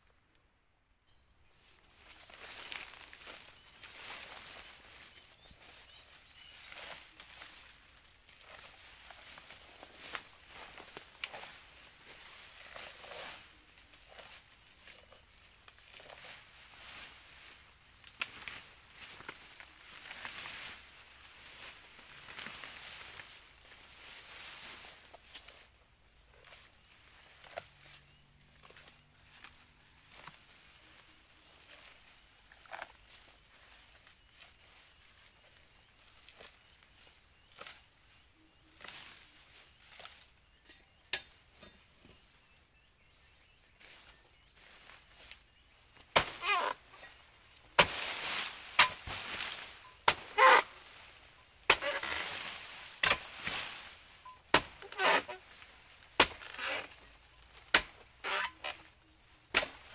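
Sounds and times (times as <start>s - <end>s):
insects droning: 0.0s - 59.9s
rustling and small knocks: 1.8s - 25.7s, 28.6s - 38.0s, 43.8s - 59.9s.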